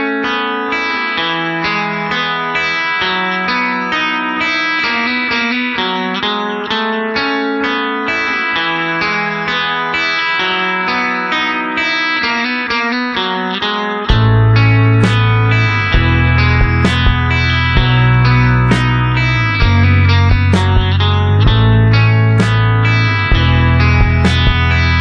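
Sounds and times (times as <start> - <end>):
guitar picking notes: 0.0 - 25.0.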